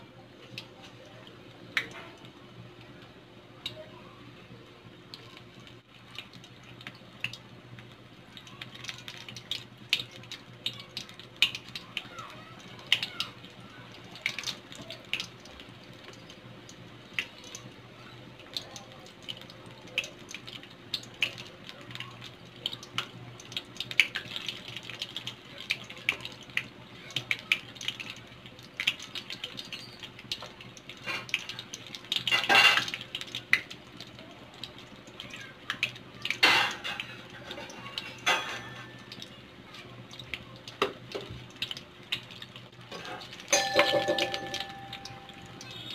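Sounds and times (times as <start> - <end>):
deep-frying sizzle with pops: 0.0 - 45.9.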